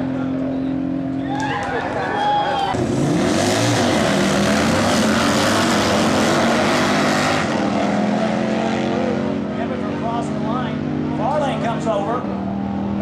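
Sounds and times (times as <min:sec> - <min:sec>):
motorcycles launching and racing: 0:00.0 - 0:13.0.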